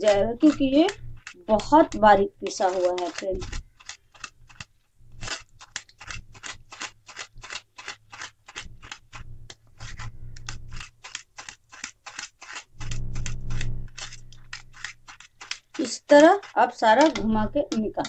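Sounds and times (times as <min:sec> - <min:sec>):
spoon scraping mesh strainer: 0:00.0 - 0:18.0.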